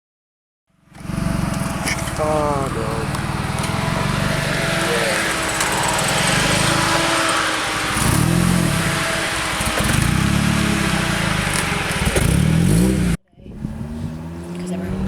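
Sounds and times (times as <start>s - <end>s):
car engine revving: 0.8s - 15.0s.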